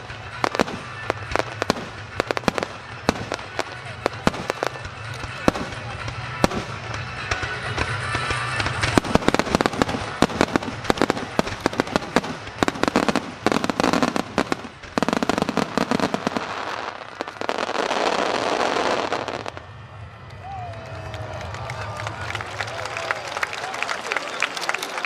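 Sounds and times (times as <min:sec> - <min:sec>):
fireworks bursting: 0:00.0 - 0:20.2
hiss and crackle of fireworks: 0:00.0 - 0:23.3.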